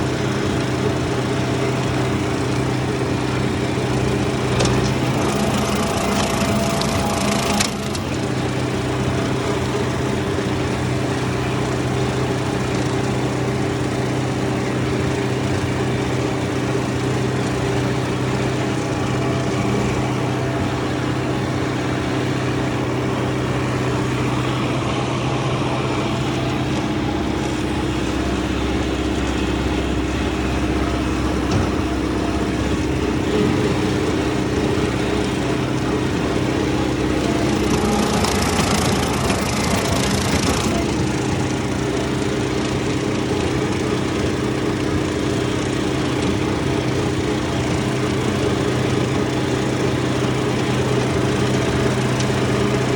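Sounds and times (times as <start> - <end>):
mower cutting thistles: 0.0 - 52.9
tractor engine running: 0.0 - 52.9.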